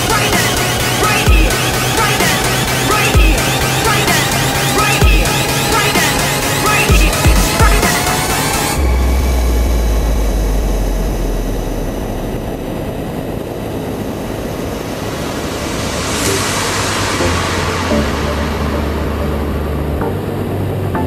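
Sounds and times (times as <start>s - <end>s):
wind rushing: 0.0s - 20.8s
motorcycle engine drone: 0.0s - 21.0s.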